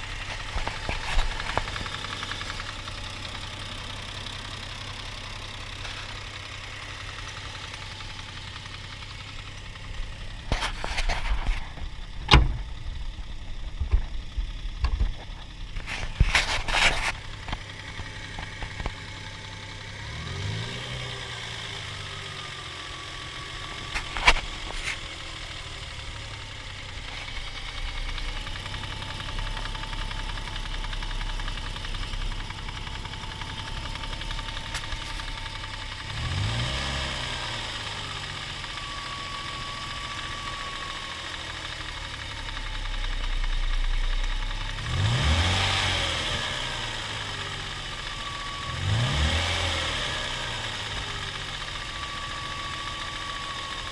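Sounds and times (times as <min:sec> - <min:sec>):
engine knock: 0:00.0 - 0:49.4, 0:50.3 - 0:53.9
car engine idling and revving: 0:00.0 - 0:53.9.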